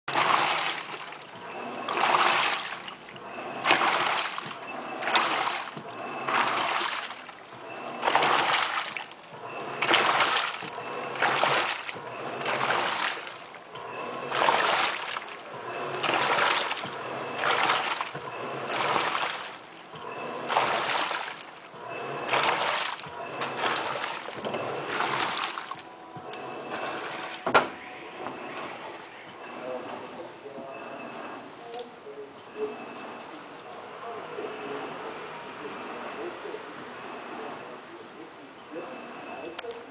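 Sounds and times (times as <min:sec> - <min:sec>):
washing machine water churning: 0:00.0 - 0:37.0.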